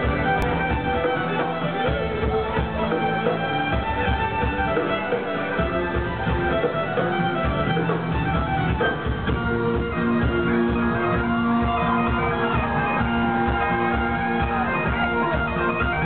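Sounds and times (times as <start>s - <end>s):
electric guitar: 0.0s - 16.0s
rock band playing live: 0.0s - 16.0s
steady drum beat: 0.0s - 16.0s.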